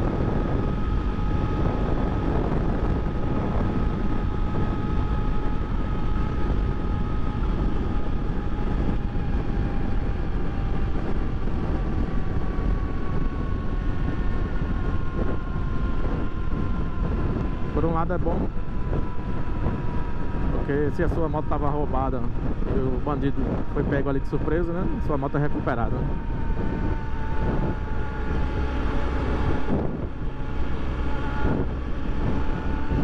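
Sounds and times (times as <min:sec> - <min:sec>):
motorcycle engine cruising: 0:00.0 - 0:33.0
wind and road rush: 0:00.0 - 0:33.0.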